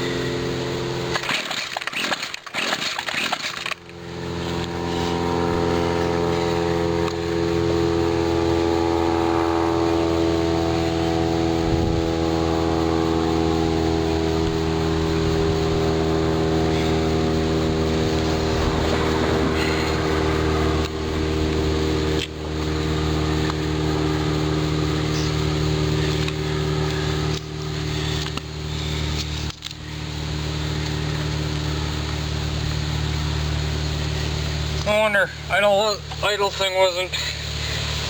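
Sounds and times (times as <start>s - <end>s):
string trimmer engine idling: 0.0s - 38.0s.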